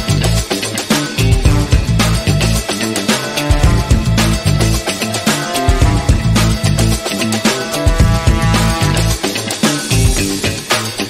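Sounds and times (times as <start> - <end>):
background music with drums and bass: 0.0 - 11.0.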